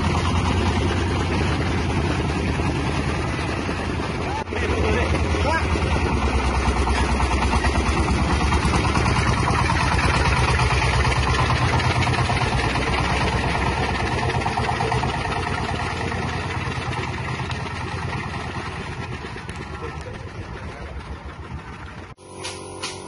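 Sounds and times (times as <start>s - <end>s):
thresher engine running: 0.0s - 23.0s.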